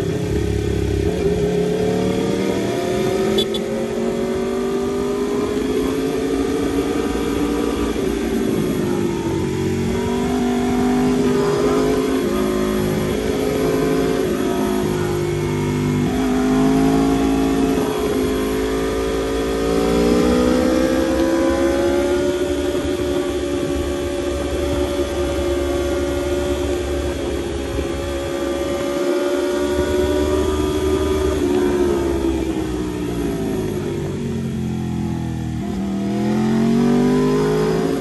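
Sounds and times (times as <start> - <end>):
motorcycle engine at speed: 0.0 - 38.0.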